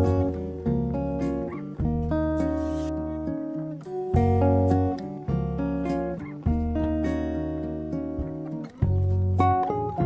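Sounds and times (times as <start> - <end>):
acoustic guitar music with beat: 0.0 - 10.0.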